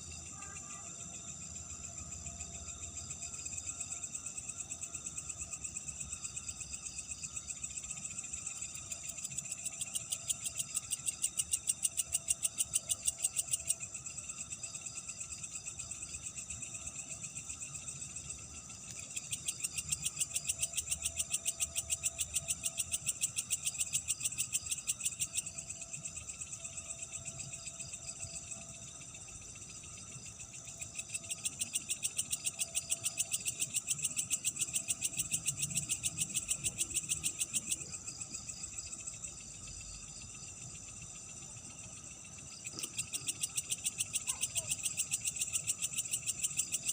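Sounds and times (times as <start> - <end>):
insects chirring: 0.0 - 46.9
high insect trilling: 0.2 - 46.9.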